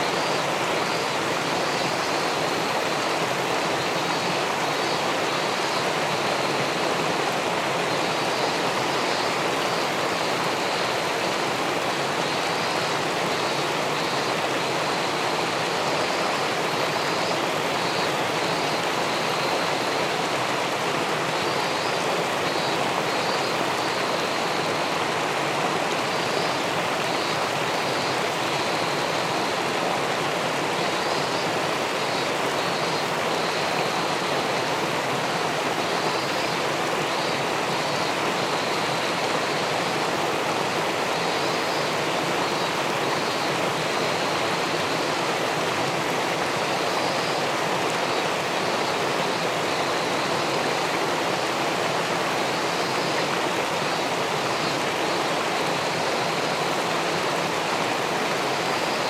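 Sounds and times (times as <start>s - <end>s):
water rushing over a weir: 0.0s - 59.0s.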